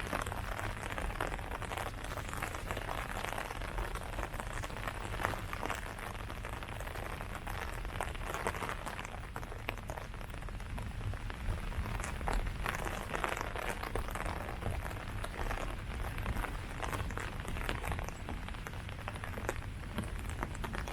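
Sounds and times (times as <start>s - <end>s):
rain pattering on leaves: 0.0s - 20.9s.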